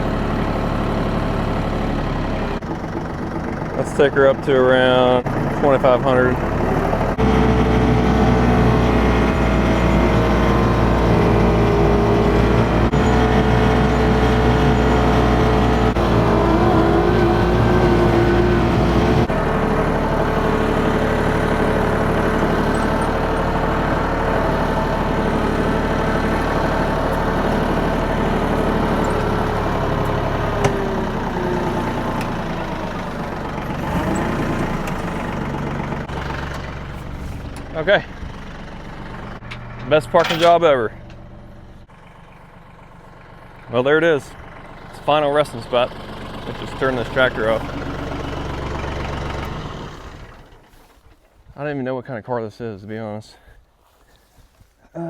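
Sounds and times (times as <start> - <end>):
tractor diesel engine running: 0.0 - 51.6.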